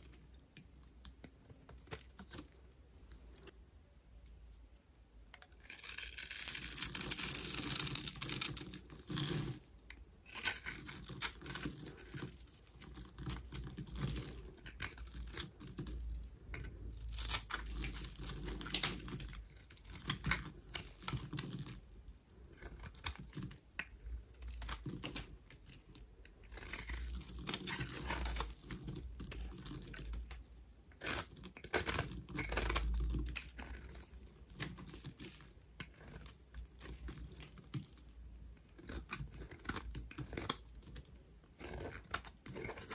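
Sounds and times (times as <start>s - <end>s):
knife cutting dry soap: 5.4s - 42.9s.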